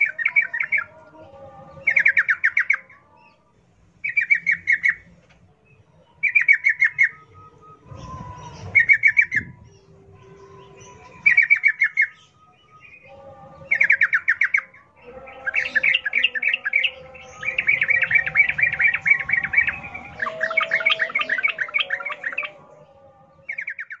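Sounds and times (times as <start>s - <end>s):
birds chattering: 0.0s - 24.0s.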